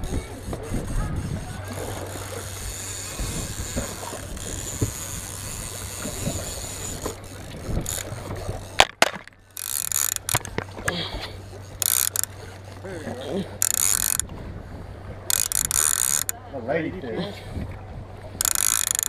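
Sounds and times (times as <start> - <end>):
fishing reel clicking: 0.0 - 14.4, 15.3 - 16.4, 18.4 - 19.0.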